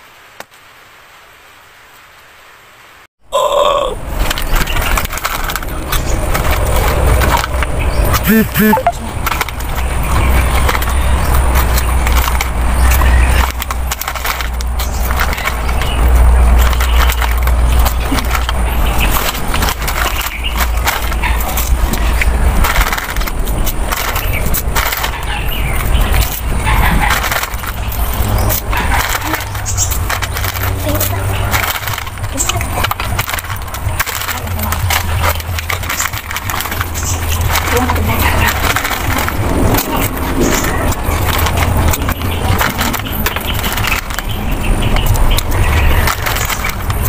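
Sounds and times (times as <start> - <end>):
foil snack packet crinkling: 4.1 - 47.0.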